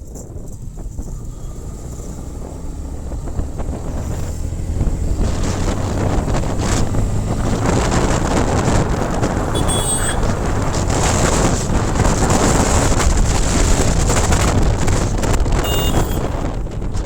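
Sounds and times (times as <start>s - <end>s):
motorcycle engine drone: 0.0s - 17.0s
wind buffeting microphone: 0.0s - 17.0s.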